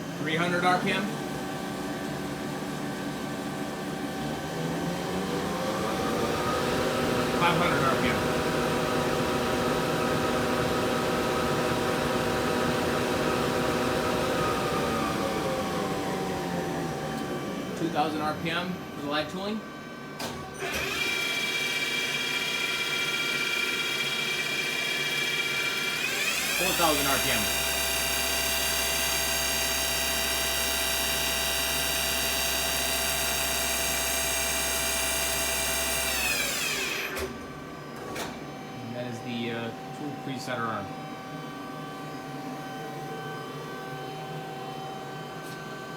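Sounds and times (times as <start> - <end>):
mechanical hum: 0.0 - 45.9
machine spindle whine: 3.4 - 45.9.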